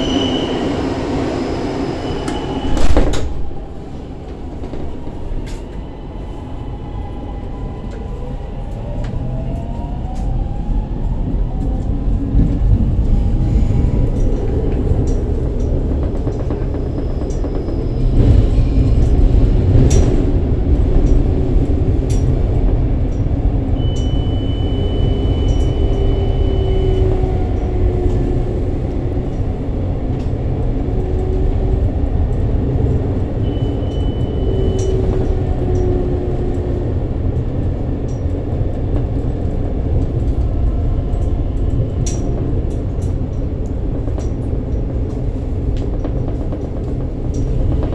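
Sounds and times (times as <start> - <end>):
train wheels rumbling on track: 0.0 - 47.9.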